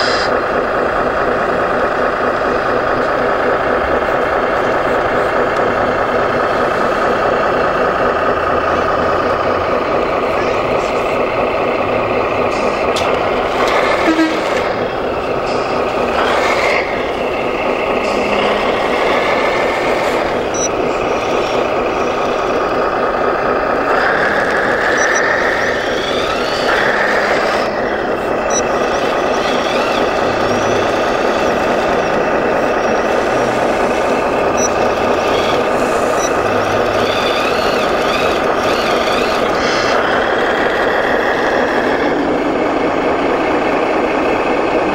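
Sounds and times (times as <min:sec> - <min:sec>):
model truck motors running: 0:00.0 - 0:44.9.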